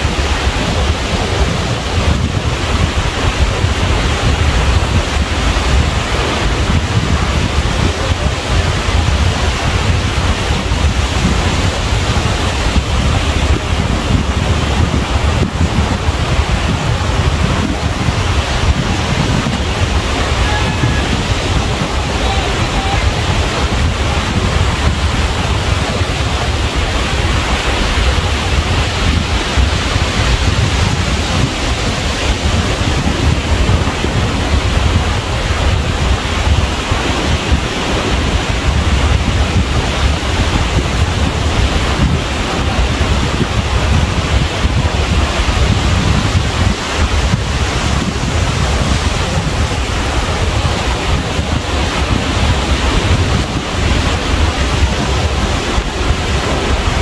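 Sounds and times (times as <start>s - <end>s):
ocean surf washing: 0.0s - 57.0s
wind buffeting microphone: 0.0s - 57.0s.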